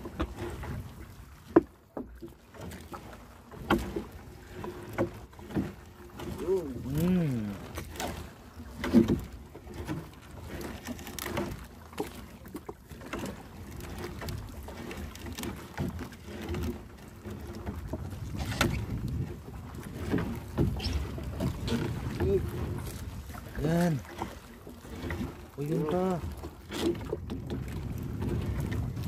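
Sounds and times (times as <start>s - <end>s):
knocks and clatters in boat: 0.0s - 29.0s
waves: 0.0s - 29.0s
wind: 0.0s - 29.0s.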